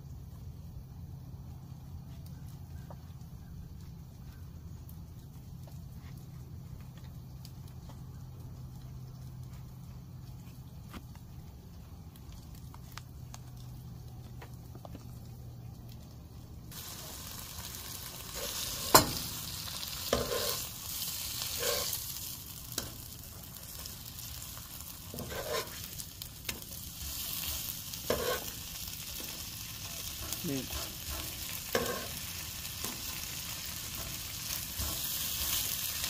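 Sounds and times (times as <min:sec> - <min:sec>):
meat sizzling on grill: 0:02.3 - 0:36.0.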